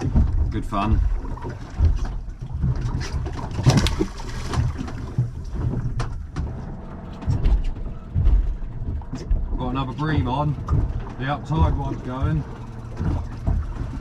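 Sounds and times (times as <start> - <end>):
low rumble of wind and water: 0.0 - 14.0
sharp knocks and clicks: 0.0 - 14.0.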